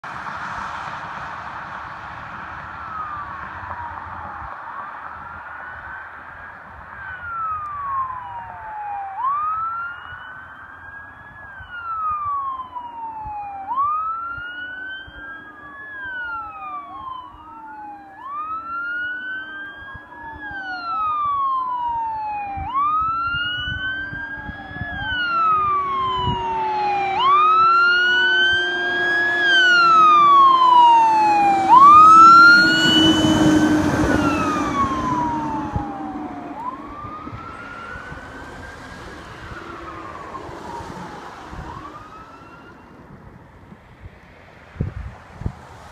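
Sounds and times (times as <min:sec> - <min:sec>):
fire engine siren wailing: 0:00.0 - 0:44.0
truck engine and tyre noise: 0:00.0 - 0:45.9.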